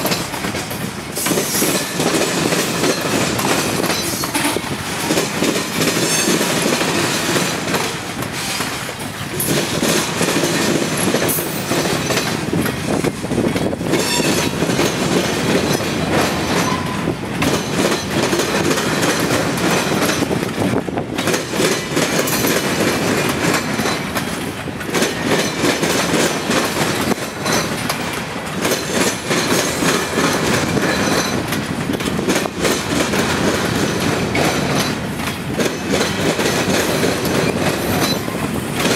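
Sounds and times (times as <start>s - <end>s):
train cars rumbling past: 0.0s - 38.9s
wheels clacking over rail joints: 0.0s - 38.9s.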